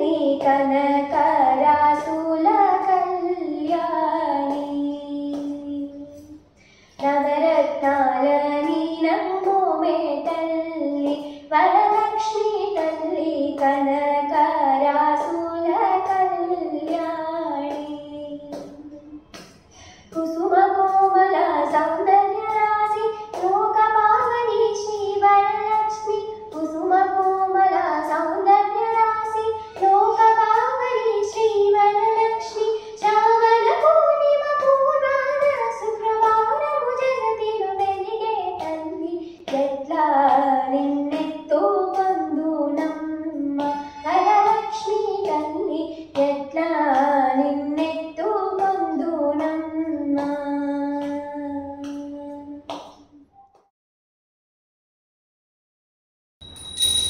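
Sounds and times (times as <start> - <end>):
girl singing unaccompanied: 0.0 - 52.7.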